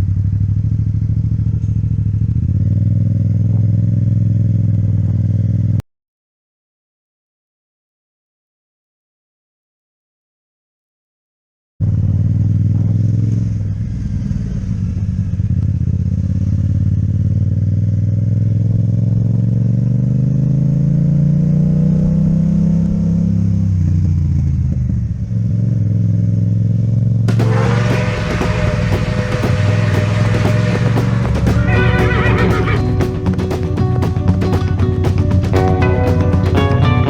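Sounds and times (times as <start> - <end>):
motorcycle engine accelerating: 0.0 - 5.8, 11.8 - 37.0.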